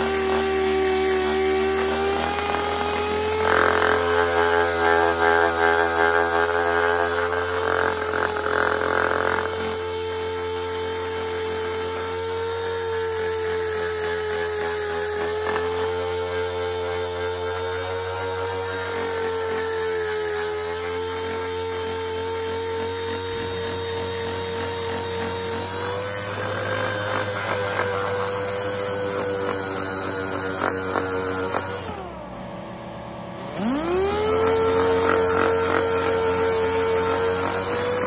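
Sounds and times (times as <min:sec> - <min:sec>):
air sander whining: 0:00.0 - 0:38.0.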